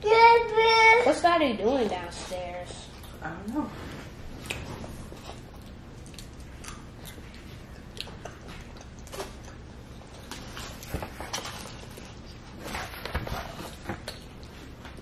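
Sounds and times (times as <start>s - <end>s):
low background hum: 0.0s - 15.0s
people chewing and eating: 1.8s - 15.0s.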